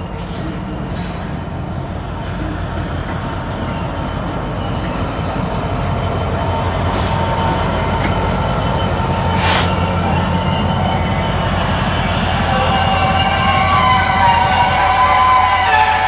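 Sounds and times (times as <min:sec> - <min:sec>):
diesel locomotive engine drone: 0:00.0 - 0:16.0
train wheels squealing: 0:02.5 - 0:16.0.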